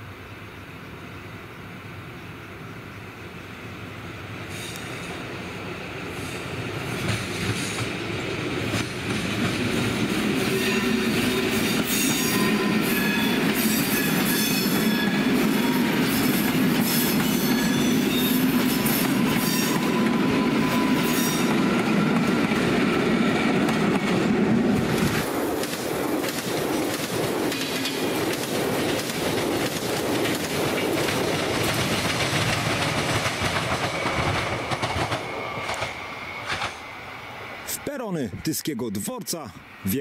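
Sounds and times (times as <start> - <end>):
train wheels rumbling on rail: 0.0 - 37.7.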